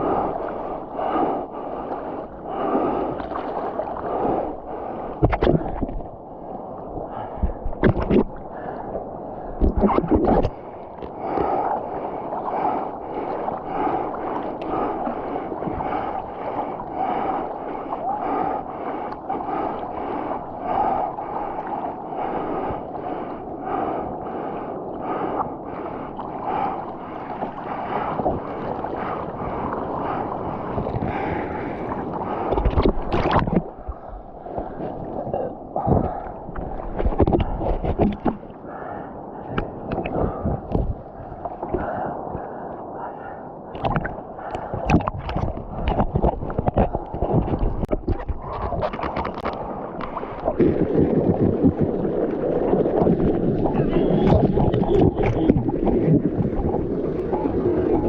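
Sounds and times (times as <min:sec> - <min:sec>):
water splashing: 0:00.0 - 0:06.3, 0:07.1 - 0:23.8, 0:26.0 - 0:39.0, 0:43.7 - 0:58.0
paddle strokes through water: 0:00.0 - 0:58.0.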